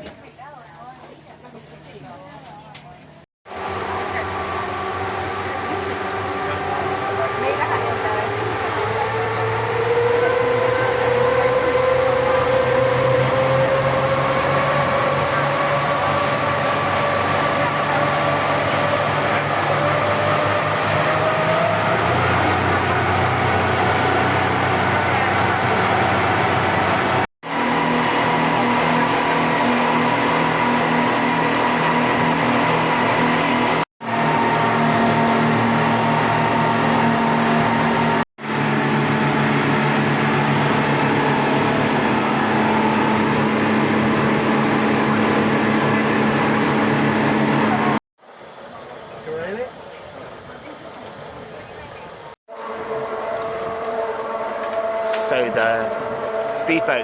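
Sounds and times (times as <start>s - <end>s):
speedboat engine whine: 3.5s - 57.0s
water rushing: 3.5s - 57.0s.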